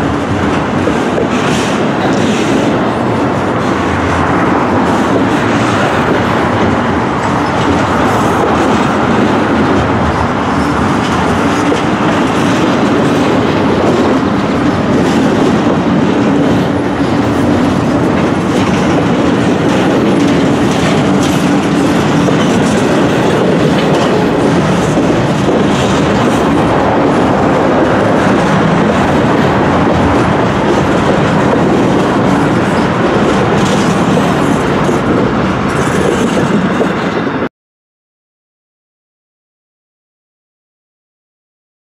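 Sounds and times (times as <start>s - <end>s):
wheels clickety-clack: 0.0s - 37.4s
freight train wheels rumbling: 0.0s - 37.5s.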